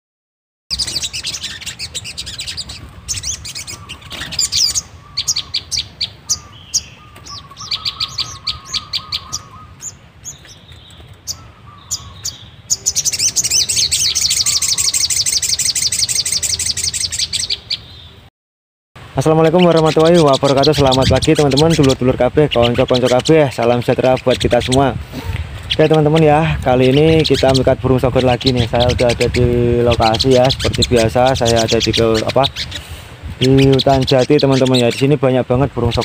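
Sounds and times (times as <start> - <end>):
sunbird chirping and trilling: 0.7 - 18.3, 19.0 - 36.0.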